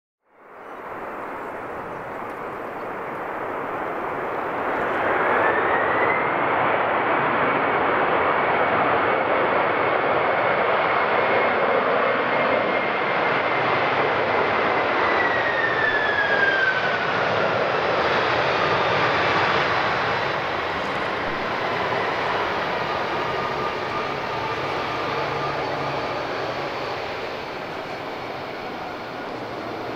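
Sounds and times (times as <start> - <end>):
jet engine roar: 0.4 - 29.9
jet engine whine: 0.4 - 29.9.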